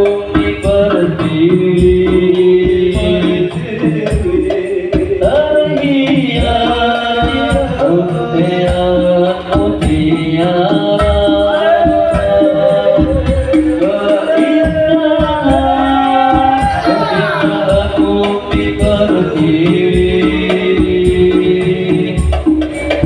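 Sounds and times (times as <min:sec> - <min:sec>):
drum and tambourine percussion: 0:00.0 - 0:23.0
person singing: 0:00.0 - 0:23.0.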